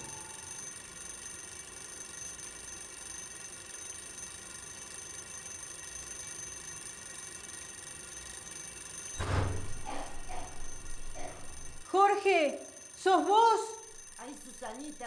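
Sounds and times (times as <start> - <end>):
high-pitched ringing tone: 0.0 - 15.0.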